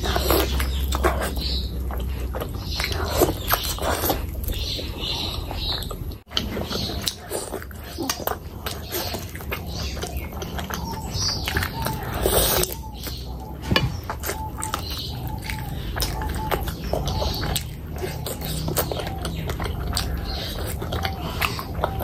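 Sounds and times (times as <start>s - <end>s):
person chewing wetly: 0.0s - 22.0s.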